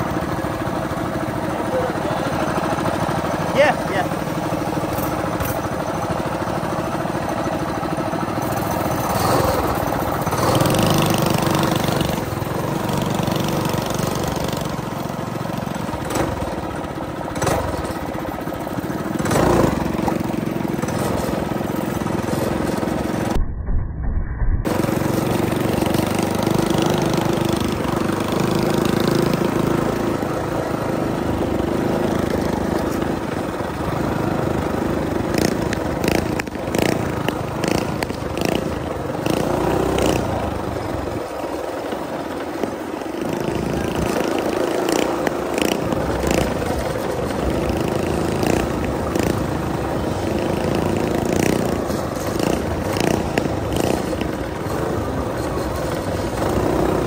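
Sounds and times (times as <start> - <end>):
small engine running: 0.0 - 23.4, 24.7 - 57.0.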